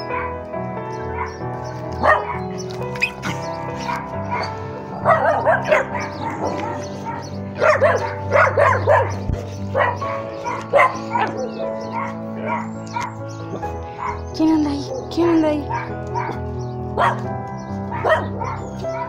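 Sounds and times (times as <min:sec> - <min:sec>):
background music: 0:00.0 - 0:19.0
dogs giving excited calls: 0:00.0 - 0:19.0.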